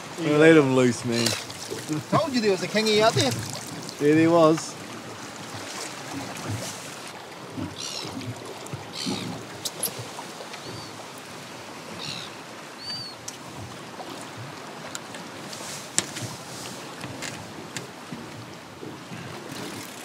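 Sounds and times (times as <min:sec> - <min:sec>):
seabird calls: 0:00.0 - 0:19.6
water lapping against boat hull: 0:00.0 - 0:20.0.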